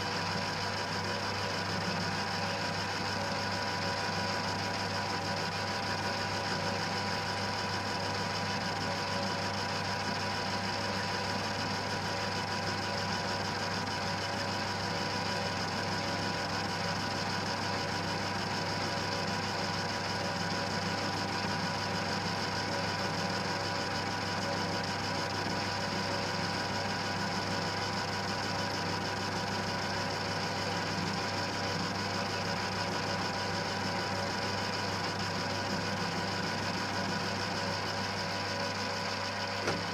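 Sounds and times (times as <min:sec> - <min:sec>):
lathe running with mechanical hum: 0:00.0 - 0:39.9.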